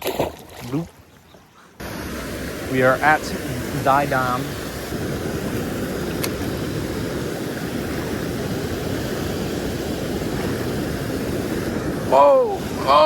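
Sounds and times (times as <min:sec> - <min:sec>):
water rushing through a dam: 0:01.8 - 0:13.0.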